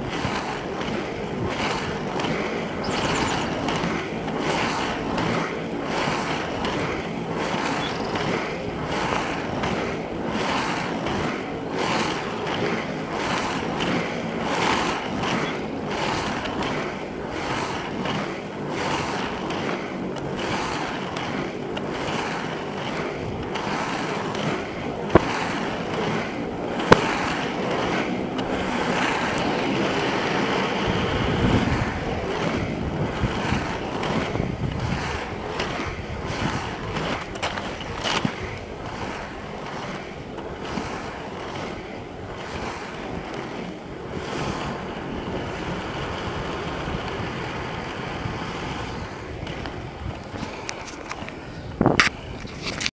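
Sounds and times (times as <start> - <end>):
skateboard wheels rolling on asphalt: 0.0 - 52.9
wind on microphone: 0.0 - 52.9.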